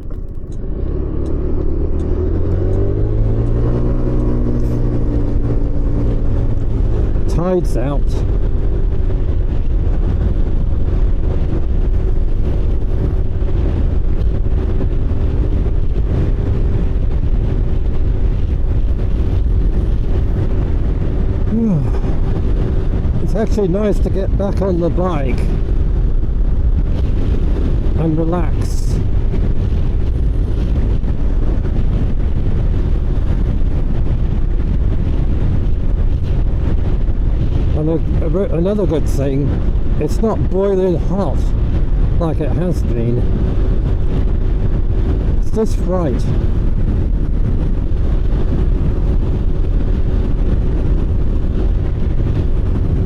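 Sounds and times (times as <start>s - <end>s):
motorcycle engine running: 0.0s - 53.0s
wind rumbling on microphone: 0.0s - 53.0s.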